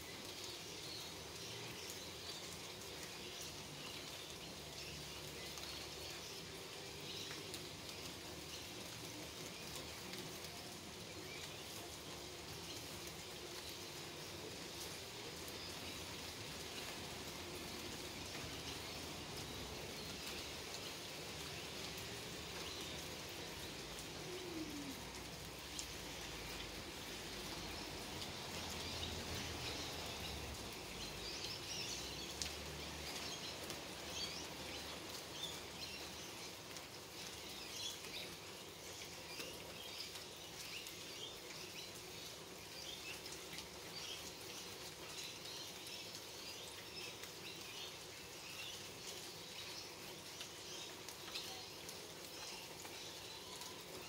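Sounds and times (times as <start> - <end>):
rain falling on plants: 0.0 - 54.0.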